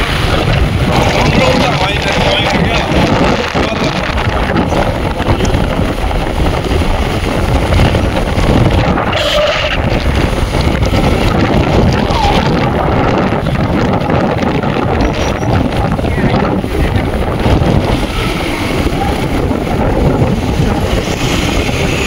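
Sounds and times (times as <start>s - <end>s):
moving vehicle: 0.0s - 22.0s
wind noise on microphone: 0.0s - 22.0s.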